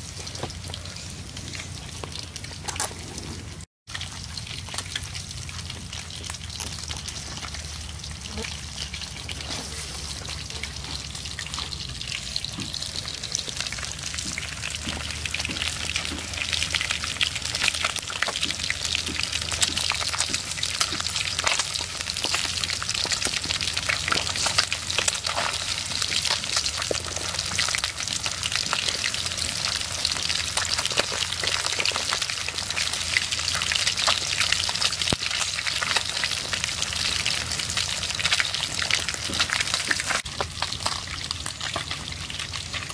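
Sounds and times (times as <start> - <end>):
fish frying in hot oil: 0.0 - 42.9.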